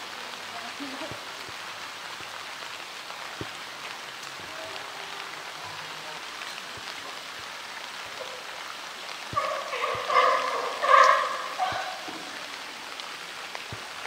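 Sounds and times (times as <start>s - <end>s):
rain on hard surfaces: 0.0s - 14.0s.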